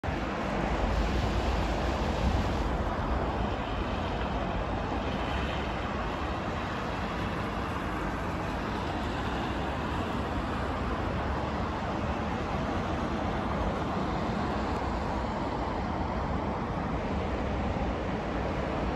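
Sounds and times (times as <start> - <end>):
highway traffic noise: 0.0 - 18.9.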